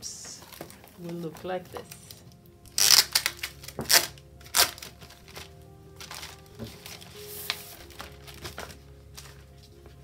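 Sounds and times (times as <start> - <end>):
faint background music: 0.0 - 10.0
plastic sleeve crinkling: 0.0 - 10.0.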